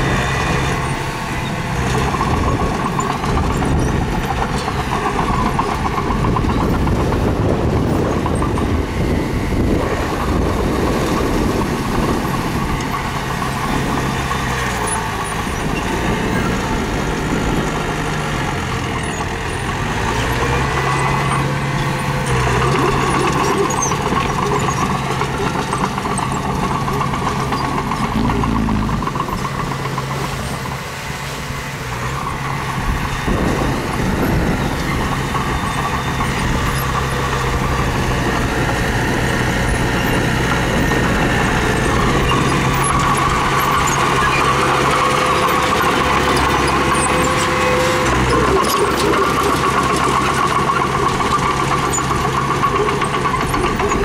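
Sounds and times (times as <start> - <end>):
diesel bulldozer engine under load: 0.0 - 54.0.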